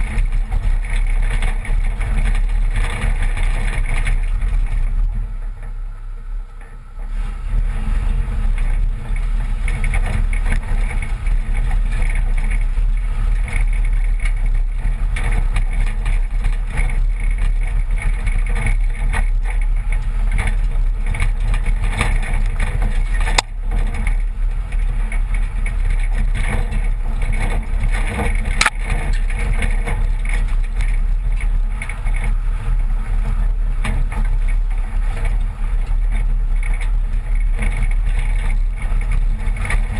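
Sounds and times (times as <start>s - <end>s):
pickup engine running: 0.0s - 39.9s
tyres rolling over gravel: 0.0s - 39.9s.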